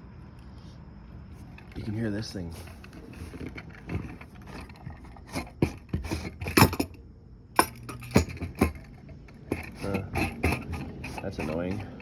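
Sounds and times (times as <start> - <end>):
metal tools clinking and knocking: 1.6 - 7.0, 7.6 - 12.0.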